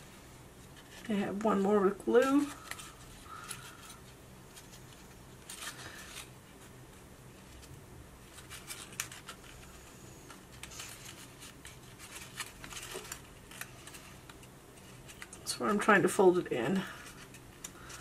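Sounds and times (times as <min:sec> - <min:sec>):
cardstock rustling and crinkling: 0:00.6 - 0:18.0.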